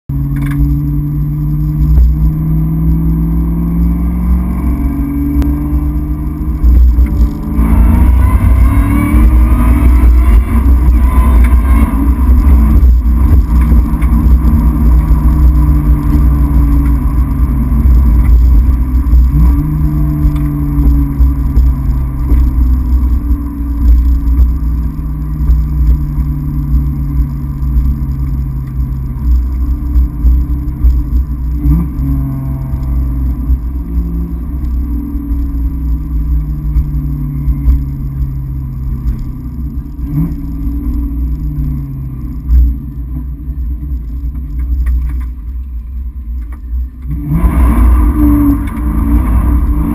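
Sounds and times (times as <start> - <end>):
car engine cruising: 0.0 - 49.9.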